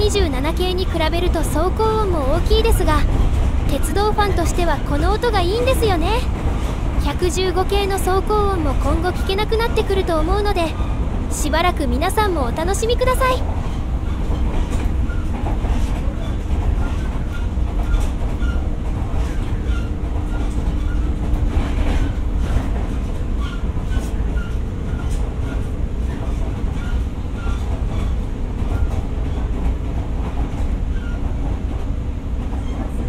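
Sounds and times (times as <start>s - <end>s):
rail-joint clicks: 0.0s - 33.0s
train wheels rumbling on rail: 0.0s - 33.0s.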